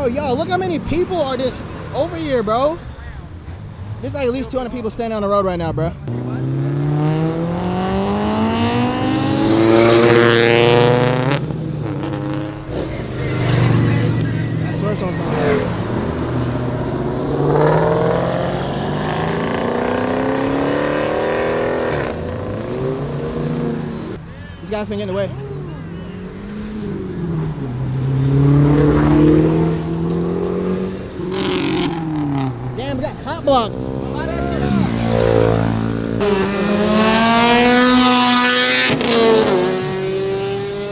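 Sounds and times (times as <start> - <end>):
car engine accelerating: 5.4 - 40.9.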